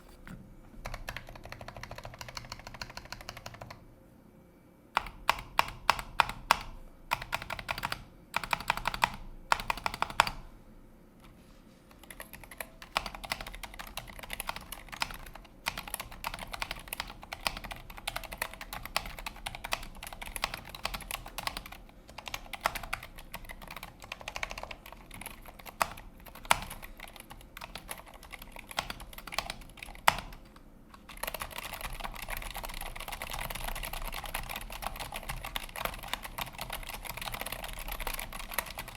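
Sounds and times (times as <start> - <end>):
mechanical keyboard typing: 0.8 - 3.8, 5.0 - 10.4, 11.9 - 38.9.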